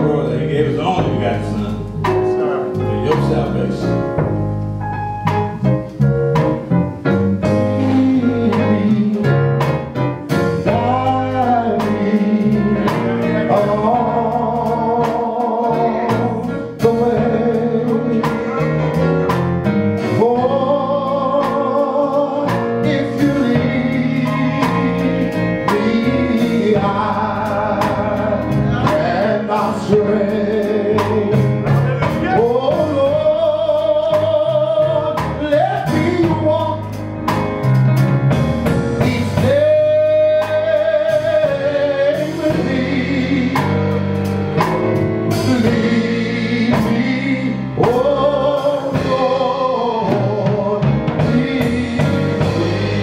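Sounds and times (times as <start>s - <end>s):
man singing gospel: 0.0s - 4.4s, 7.4s - 37.5s, 38.7s - 53.0s
drums: 0.0s - 53.0s
electric bass: 0.0s - 53.0s
piano: 0.0s - 53.0s.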